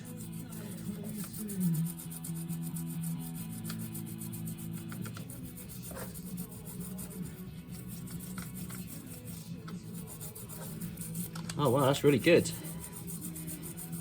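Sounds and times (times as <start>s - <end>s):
background music: 0.0s - 14.0s
brush scrubbing chain: 0.0s - 14.0s.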